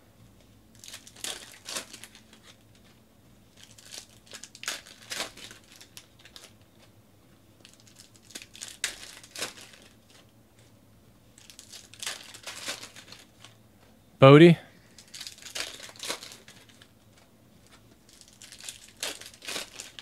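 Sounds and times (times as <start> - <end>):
plastic wrappers crinkling and tearing: 0.7 - 6.9, 7.6 - 10.3, 11.3 - 13.6, 14.9 - 20.0.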